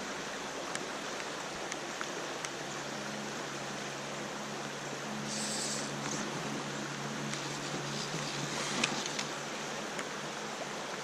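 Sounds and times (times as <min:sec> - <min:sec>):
shallow river rushing: 0:00.0 - 0:11.0.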